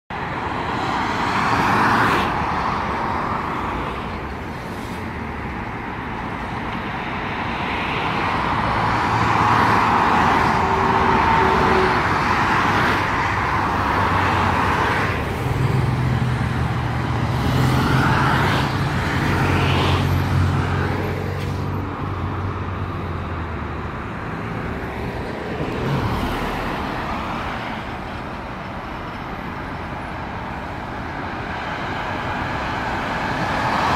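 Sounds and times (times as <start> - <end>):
expressway traffic noise: 0.1 - 33.9.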